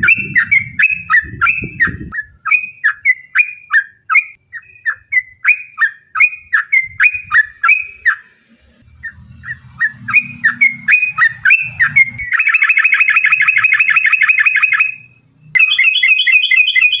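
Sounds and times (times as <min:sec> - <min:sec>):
bird chirping: 0:00.0 - 0:17.0
bird trill: 0:00.0 - 0:17.0.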